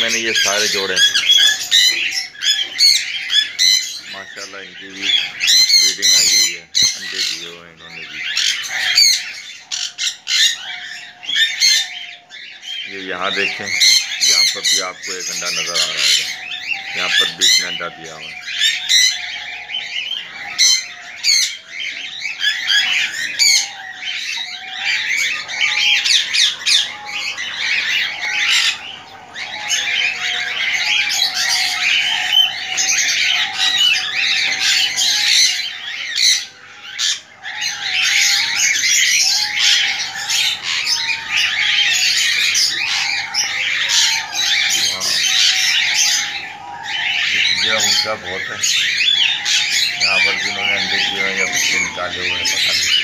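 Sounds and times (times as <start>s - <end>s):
caged birds chirping and squawking: 0.0s - 53.0s.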